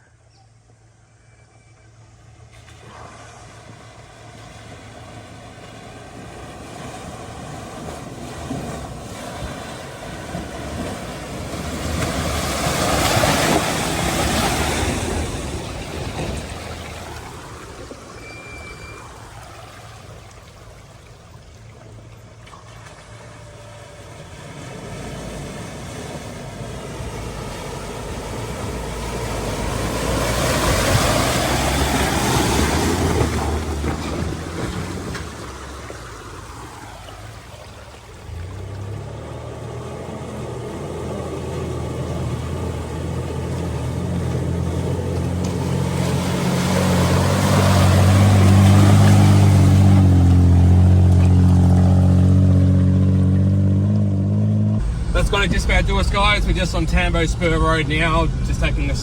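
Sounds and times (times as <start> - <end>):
vehicle engine hum: 0.0 - 59.0
tyres splashing through water: 2.3 - 59.0.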